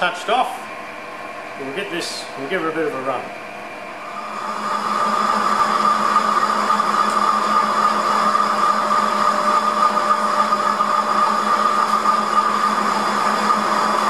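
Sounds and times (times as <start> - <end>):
metal lathe humming and whining: 0.0 - 14.0.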